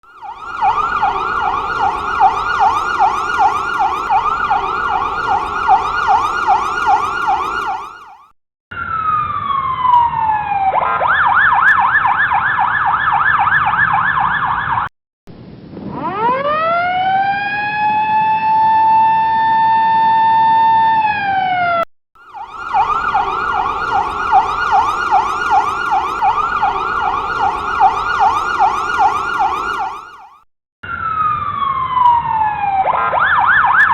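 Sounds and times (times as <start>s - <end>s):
ambulance sirens: 0.0s - 14.9s, 15.9s - 33.9s.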